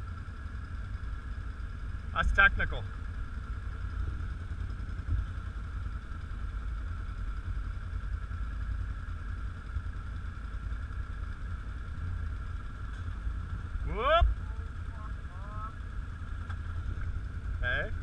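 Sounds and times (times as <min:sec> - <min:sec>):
atv engine idling: 0:00.0 - 0:18.0.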